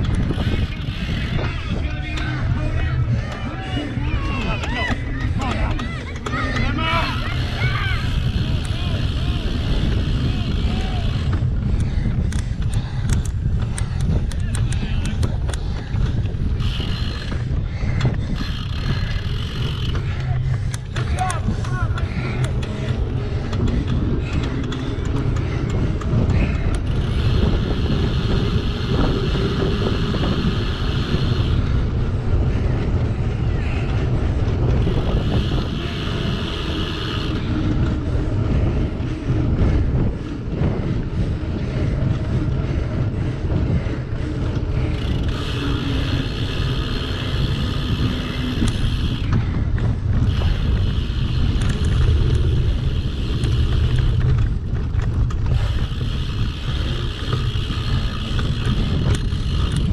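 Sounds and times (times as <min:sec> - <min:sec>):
tyre and bike rumble: 0:00.0 - 0:59.9
wind buffeting microphone: 0:00.0 - 0:59.9.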